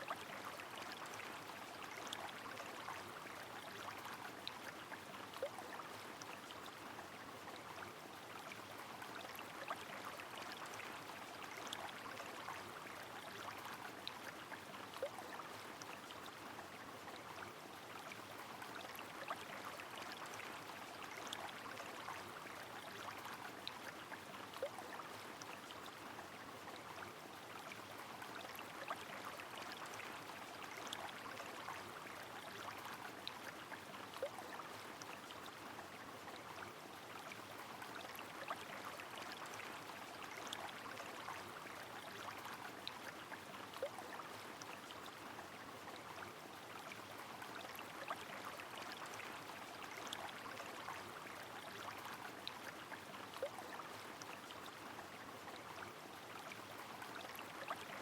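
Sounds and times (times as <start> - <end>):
rain: 0.0 - 58.0.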